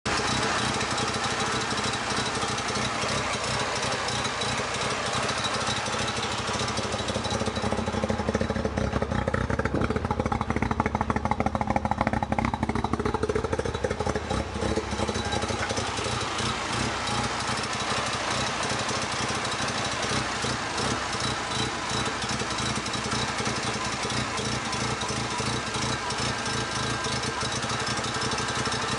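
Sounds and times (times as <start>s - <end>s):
rotary engine idling roughly: 0.0s - 28.9s.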